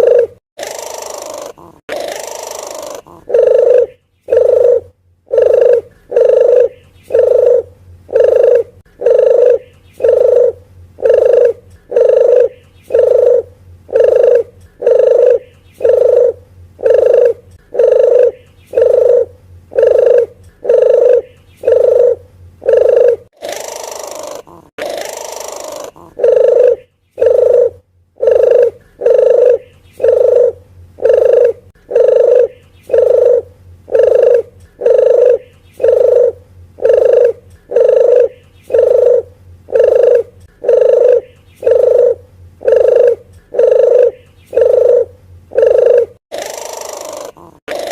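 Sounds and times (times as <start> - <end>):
dove low hooting call: 0.0 - 47.9.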